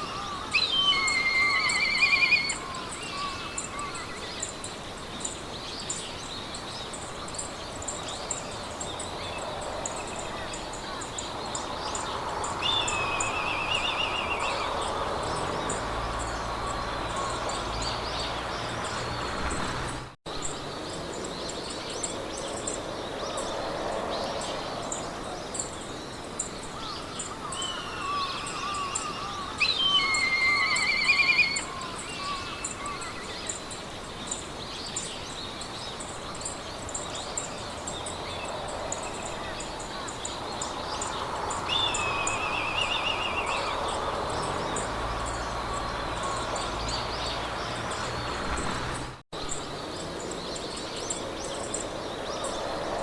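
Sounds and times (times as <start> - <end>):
birds singing: 0.0 - 53.0
steady background hiss: 0.0 - 53.0.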